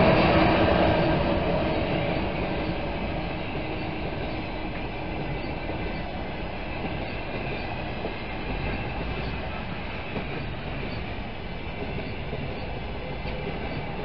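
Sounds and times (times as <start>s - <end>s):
train wheels on track: 0.0s - 14.0s.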